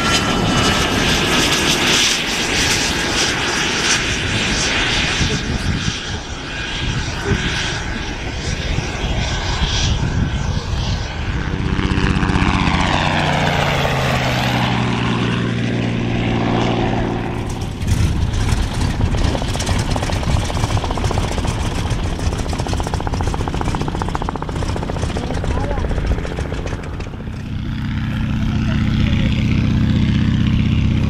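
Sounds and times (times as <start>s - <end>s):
helicopter passing low: 0.0s - 31.0s
jet takeoff: 0.0s - 31.0s
radial engine running at low power: 0.0s - 31.0s.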